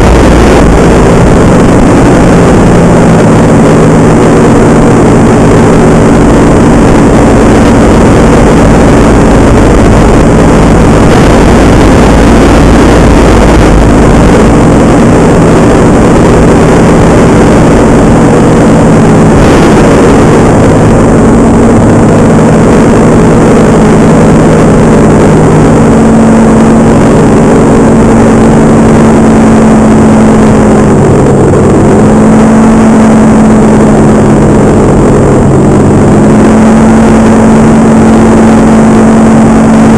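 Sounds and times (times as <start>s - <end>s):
paramotor engine and propeller: 0.0s - 39.9s
wind rumbling on microphone: 0.0s - 39.9s.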